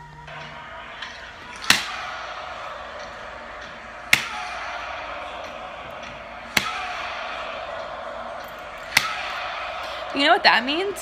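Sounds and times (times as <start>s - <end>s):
hand claps: 0.4s - 10.0s.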